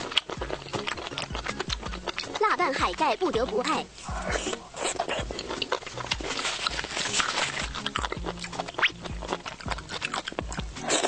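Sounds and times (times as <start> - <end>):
mouth clicks: 0.0 - 11.0
wet crunching chewing: 0.0 - 11.0.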